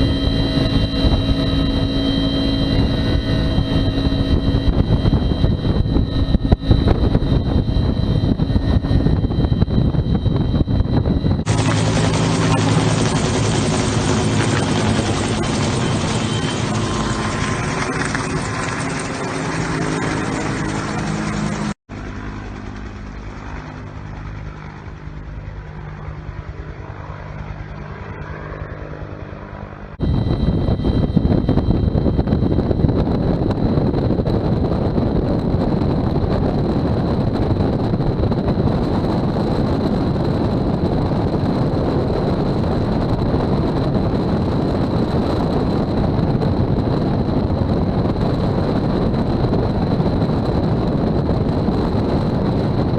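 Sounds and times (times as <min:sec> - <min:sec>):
helicopter engine and rotor: 0:00.0 - 0:52.9.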